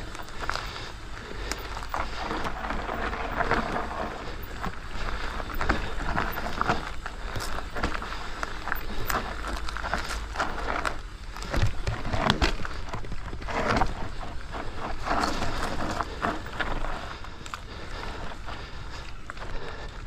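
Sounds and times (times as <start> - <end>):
bike tyres rolling over rocks: 0.0 - 20.0.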